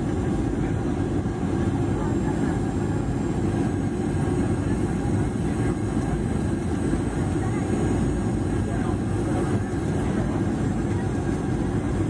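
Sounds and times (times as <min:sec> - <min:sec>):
engine and airflow rumble: 0:00.0 - 0:12.0
faint steady whines: 0:00.0 - 0:12.0.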